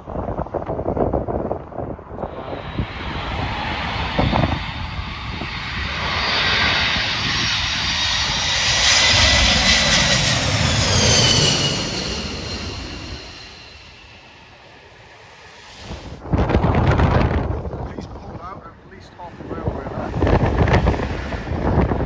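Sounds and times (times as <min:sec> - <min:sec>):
wind buffeting microphone: 0:00.0 - 0:13.6, 0:15.8 - 0:22.0
jet airliner passing overhead: 0:00.0 - 0:22.0.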